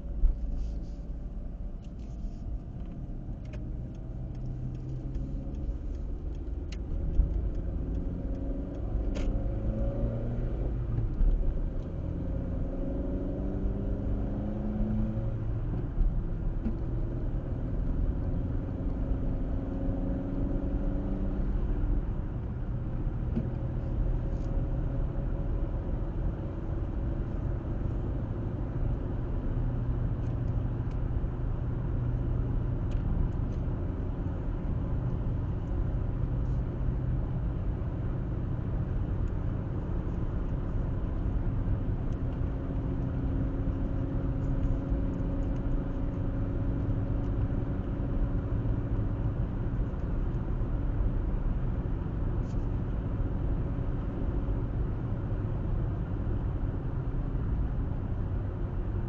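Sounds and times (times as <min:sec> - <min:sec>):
car engine hum: 0:00.0 - 0:59.0
road and tyre noise: 0:00.0 - 0:59.0.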